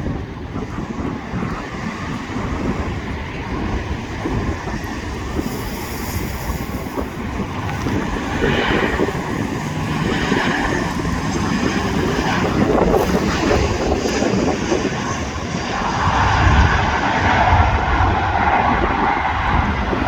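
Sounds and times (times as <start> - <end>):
jet engine rumble: 0.0 - 20.0
wind on microphone: 0.0 - 20.0.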